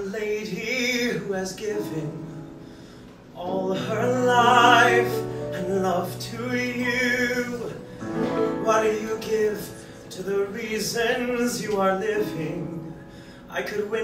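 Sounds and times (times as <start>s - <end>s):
man singing a show tune: 0.0s - 2.4s, 3.4s - 14.0s
piano accompaniment: 0.0s - 14.0s.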